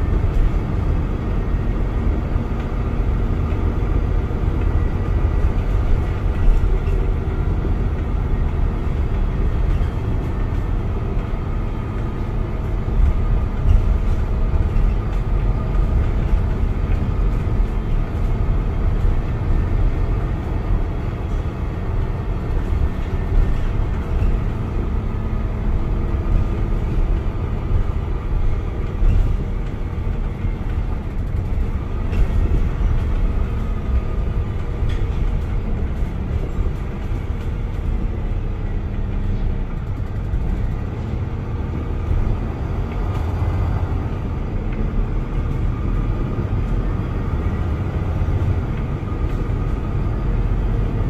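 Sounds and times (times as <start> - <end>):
bus interior rumble: 0.0 - 51.0.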